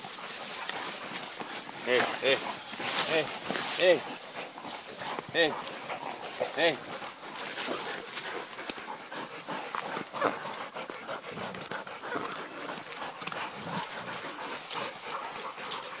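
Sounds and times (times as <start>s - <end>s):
dog panting hard: 0.0s - 16.0s
rustling: 0.0s - 16.0s.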